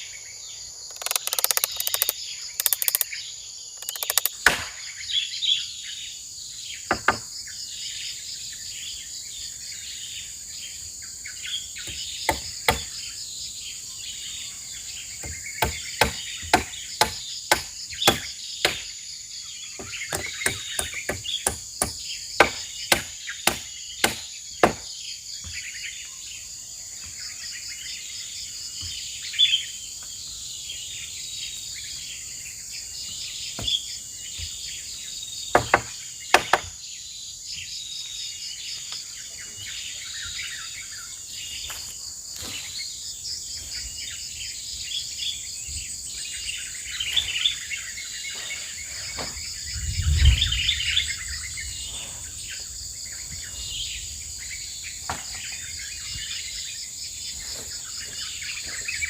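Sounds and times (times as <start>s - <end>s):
birds chirping: 0.0s - 59.0s
high insect drone: 0.0s - 59.0s.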